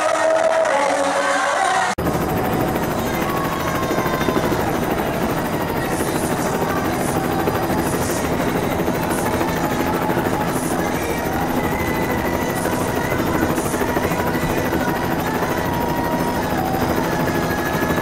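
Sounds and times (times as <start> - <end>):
helicopter rotor chop: 2.0 - 18.0.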